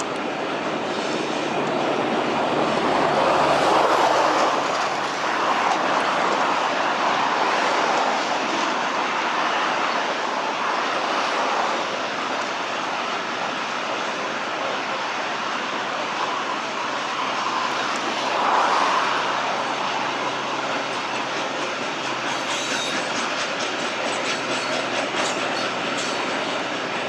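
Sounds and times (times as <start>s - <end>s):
train wheels rolling on rail: 0.0s - 27.0s.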